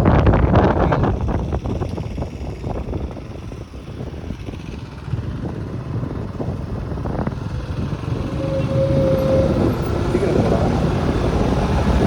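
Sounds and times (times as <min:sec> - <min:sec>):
motorcycle road noise: 0:00.0 - 0:12.0
wind rushing over microphone: 0:00.0 - 0:12.0.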